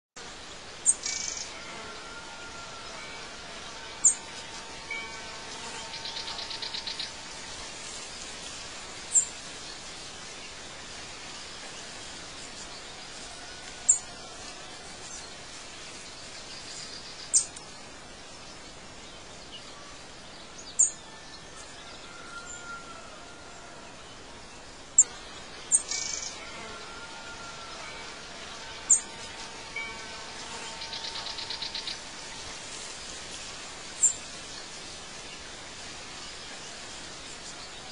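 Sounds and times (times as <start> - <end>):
steady hiss: 0.2 - 37.9.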